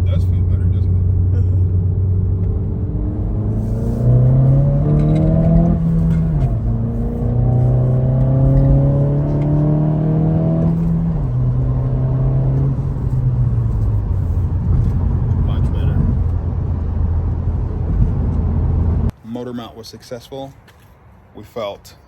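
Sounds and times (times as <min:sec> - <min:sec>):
car engine accelerating: 0:00.0 - 0:19.1.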